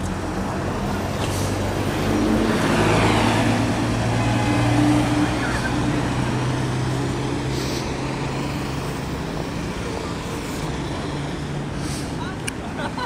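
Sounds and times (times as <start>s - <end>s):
passing cars and tyres: 0.0s - 13.0s
vehicle engine hum: 0.0s - 13.0s.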